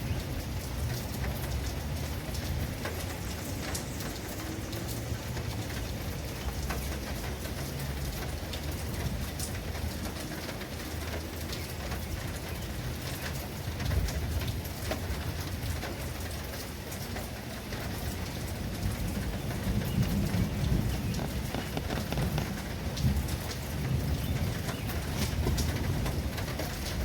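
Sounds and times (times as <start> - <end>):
rain pattering on a surface: 0.0 - 27.0.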